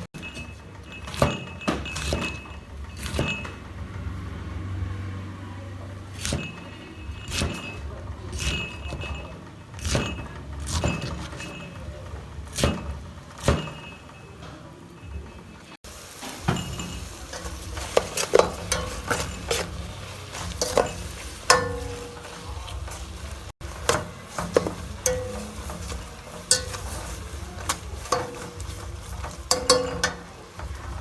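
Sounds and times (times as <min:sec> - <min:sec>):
utensils clinking against cookware: 0:00.0 - 0:04.4, 0:05.8 - 0:31.0.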